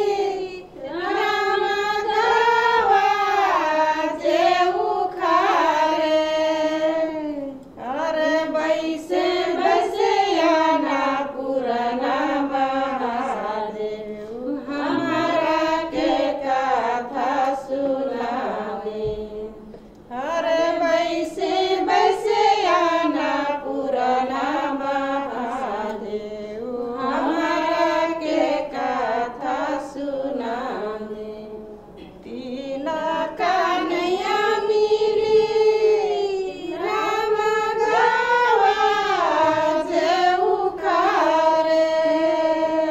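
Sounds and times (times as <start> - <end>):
women singing together: 0.0 - 42.9.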